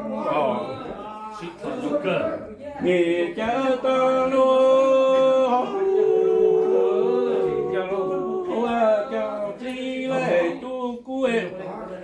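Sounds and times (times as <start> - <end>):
man chanting unaccompanied: 1.4 - 11.5.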